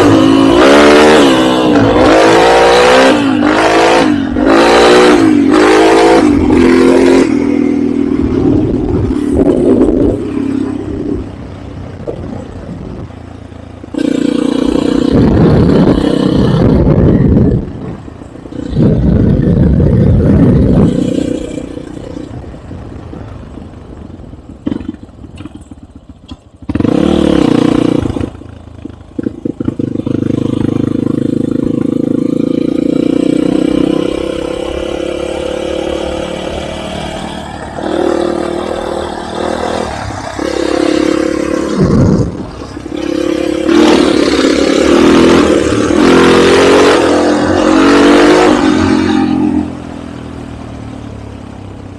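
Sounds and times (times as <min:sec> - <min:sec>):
motorcycle engine revving: 0:00.0 - 0:51.6.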